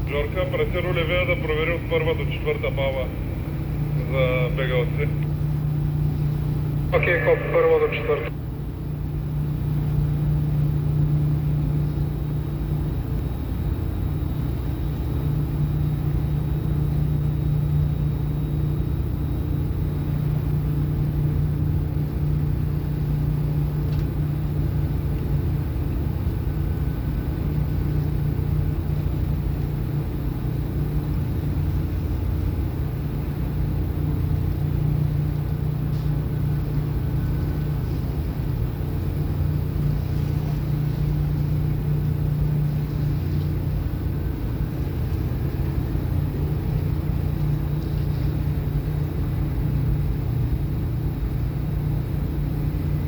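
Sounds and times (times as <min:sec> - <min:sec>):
ship engine drone: 0:00.0 - 0:53.0.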